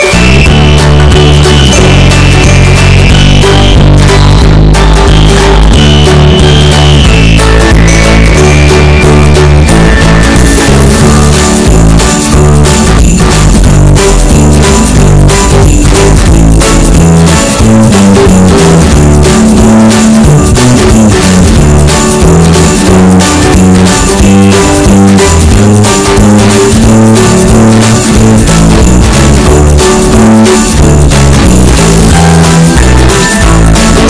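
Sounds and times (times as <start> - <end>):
music with steady beat: 0.0 - 34.0.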